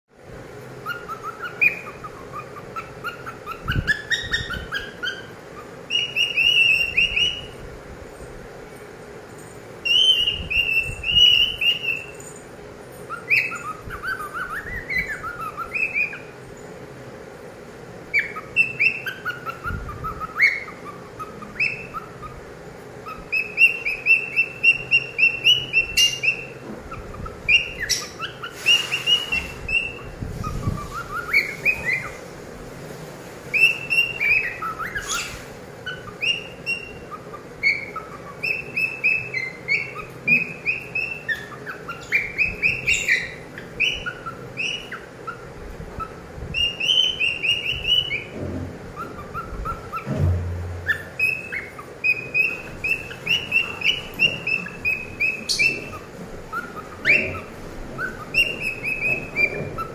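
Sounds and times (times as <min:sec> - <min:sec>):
cockatiel whistled chirps: 0:00.8 - 0:07.6, 0:09.8 - 0:12.4, 0:13.0 - 0:16.4, 0:18.1 - 0:22.4, 0:23.0 - 0:32.2, 0:33.5 - 0:50.2, 0:50.8 - 0:59.9.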